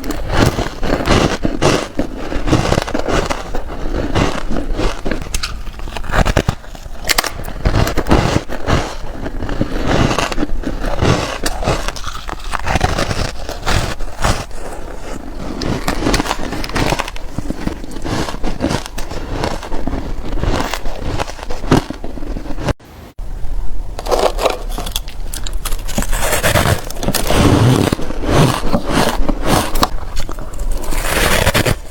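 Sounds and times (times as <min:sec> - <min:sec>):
ice being chewed: 0:00.0 - 0:22.8, 0:24.2 - 0:31.9.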